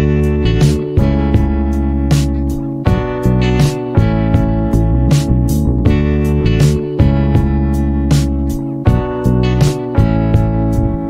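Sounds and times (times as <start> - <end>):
plucked guitar music with beat: 0.0 - 11.0.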